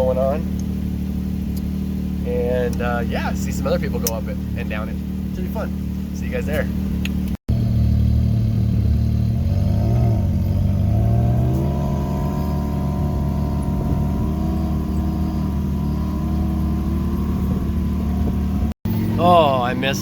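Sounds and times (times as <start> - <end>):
engine revving: 0.0 - 20.0.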